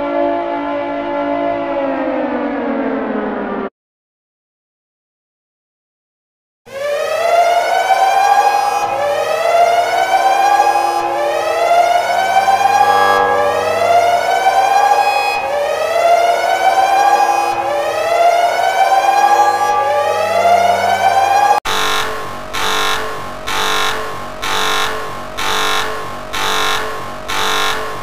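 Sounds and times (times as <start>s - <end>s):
siren rising sweeps: 0.0s - 3.7s, 6.7s - 25.8s.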